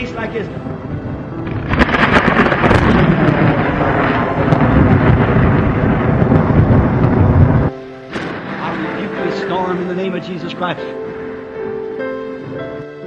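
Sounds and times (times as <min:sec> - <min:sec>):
loud thunder crack: 0:00.0 - 0:11.8
heavy rolling thunder: 0:00.0 - 0:12.7.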